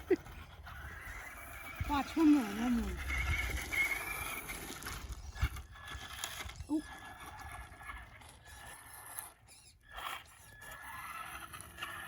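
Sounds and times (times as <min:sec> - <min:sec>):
electric motor whine: 0:00.0 - 0:12.0.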